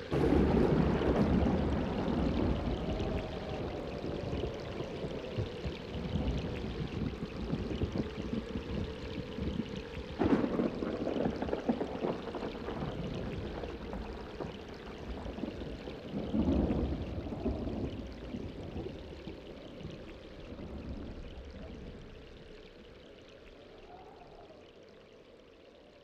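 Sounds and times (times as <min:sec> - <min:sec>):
low rumbles of thunder: 0:00.0 - 0:22.8
steady rain: 0:00.0 - 0:26.0.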